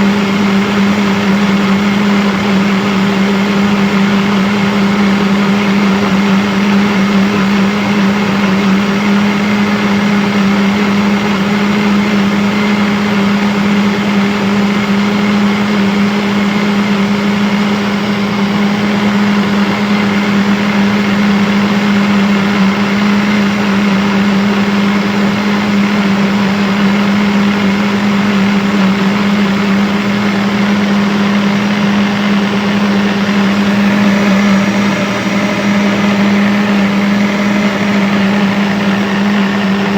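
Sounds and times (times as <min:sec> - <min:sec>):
blender motor humming: 0:00.0 - 0:39.9.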